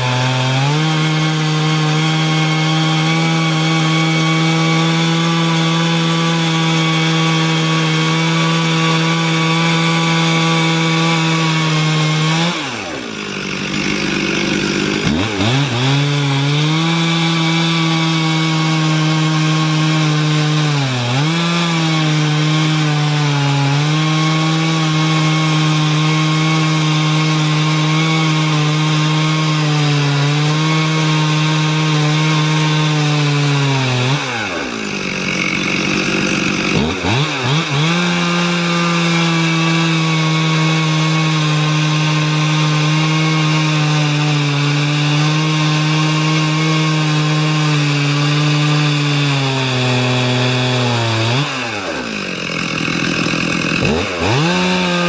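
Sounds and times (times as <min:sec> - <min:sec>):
chainsaw cutting through log: 0:00.0 - 0:55.0.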